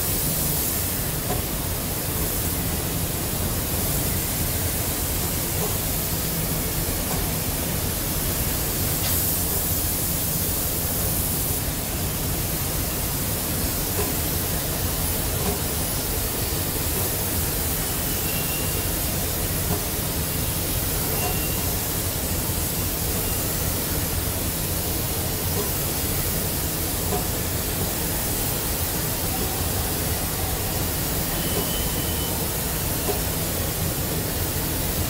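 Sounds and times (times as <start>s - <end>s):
spray painting air hiss: 0.0s - 35.0s.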